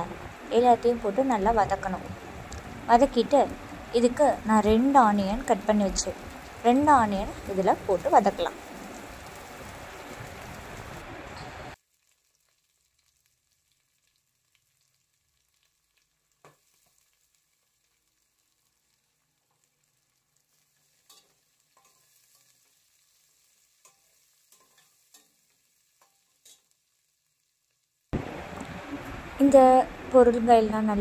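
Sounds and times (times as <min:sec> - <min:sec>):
oil sizzling: 0:00.0 - 0:31.0.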